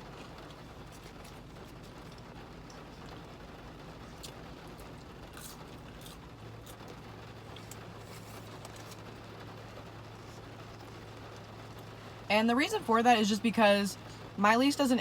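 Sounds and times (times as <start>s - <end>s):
low even hum: 0.0s - 15.0s
rain patter: 0.0s - 15.0s.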